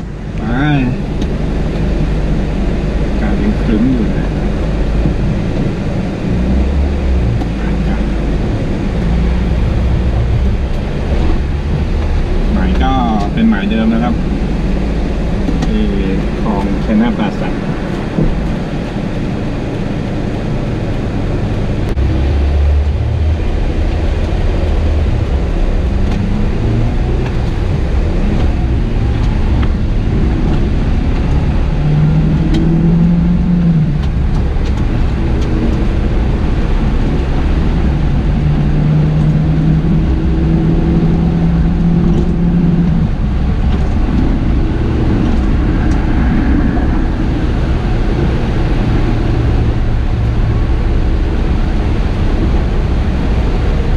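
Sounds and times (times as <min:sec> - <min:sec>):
engine and road rumble: 0:00.0 - 0:53.9
pitched hum: 0:00.0 - 0:53.9.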